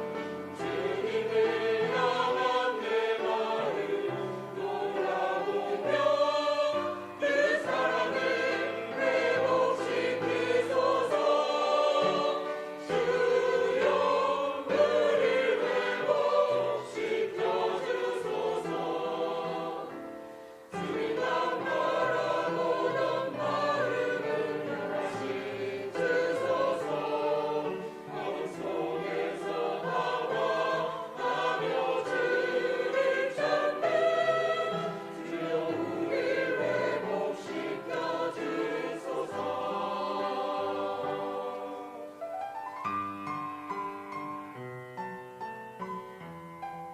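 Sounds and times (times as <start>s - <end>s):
instrumental accompaniment: 0.0s - 46.9s
group singing worship song: 0.5s - 42.1s.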